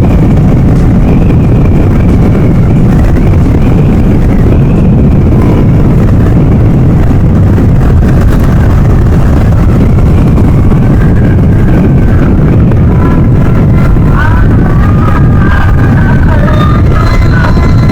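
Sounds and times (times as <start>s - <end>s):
wind rushing over microphone: 0.0s - 17.9s.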